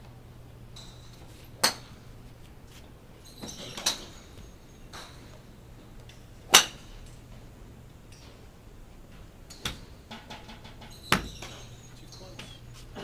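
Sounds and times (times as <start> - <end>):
golf clubs striking balls: 0.8 - 2.1, 3.2 - 8.5, 9.1 - 13.0.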